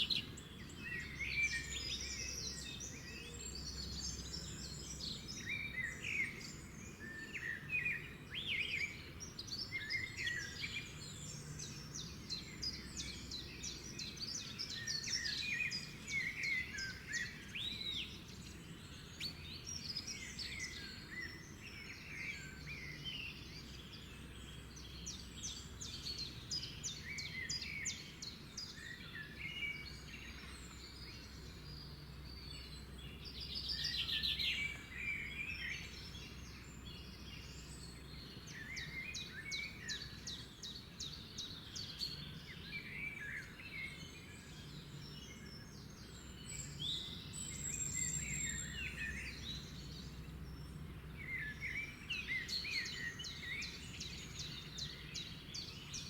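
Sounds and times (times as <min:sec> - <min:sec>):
wild birds singing: 0:00.0 - 0:56.0.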